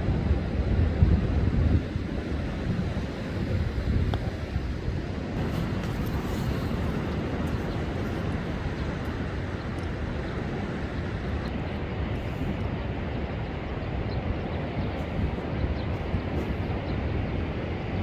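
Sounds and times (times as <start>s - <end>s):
storm surf on a beach: 0.0s - 18.0s
wind buffeting microphone: 0.0s - 18.0s.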